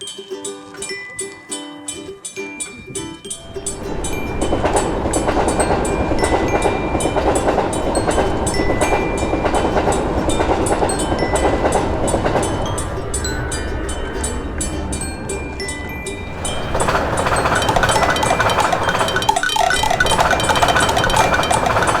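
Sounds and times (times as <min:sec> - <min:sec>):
rapid even ticking: 0:02.2 - 0:22.0
train wheels clacking on rails: 0:03.4 - 0:22.0.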